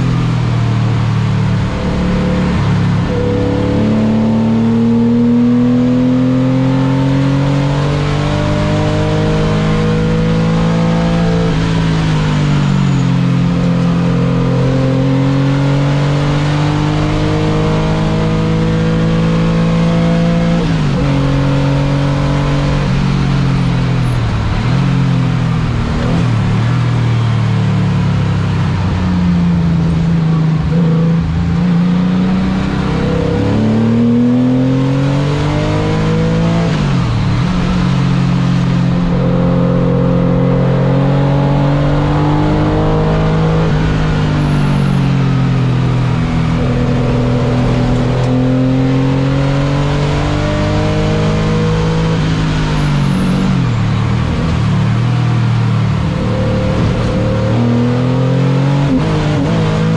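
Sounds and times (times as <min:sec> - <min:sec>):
car engine driven hard: 0:00.0 - 0:59.9.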